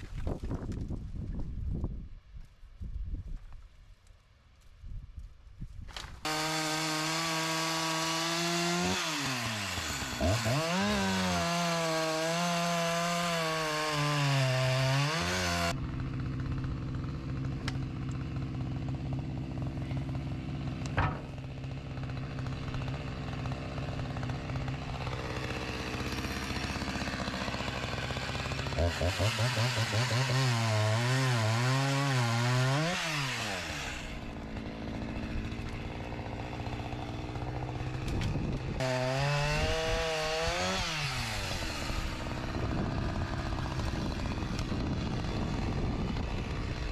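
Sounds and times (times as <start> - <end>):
sawmill engine sawing log: 6.2 - 46.9.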